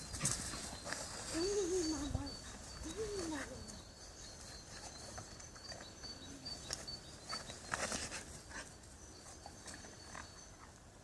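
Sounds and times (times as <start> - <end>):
rustling: 0.0 - 10.8.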